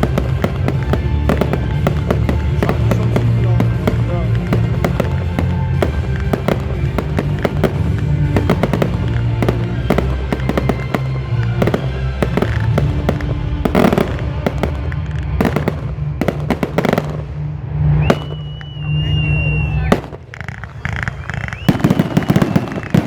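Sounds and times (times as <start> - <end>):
fireworks bangs and crackles: 0.0 - 23.0
music: 0.0 - 23.0.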